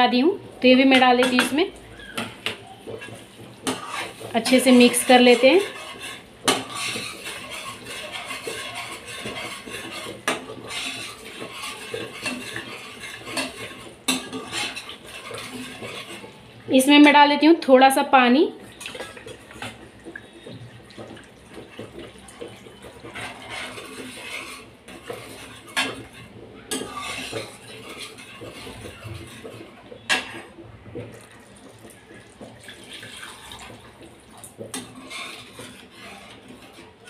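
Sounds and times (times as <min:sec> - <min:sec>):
wet stirring: 0:00.6 - 0:17.5, 0:18.5 - 0:37.0
spoon scraping a pan: 0:00.7 - 0:17.4, 0:18.6 - 0:37.0.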